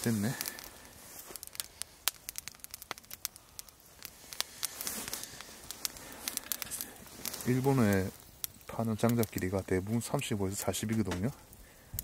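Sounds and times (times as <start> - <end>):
fire hissing: 0.0 - 12.0
wood fire crackling and popping: 0.0 - 12.0.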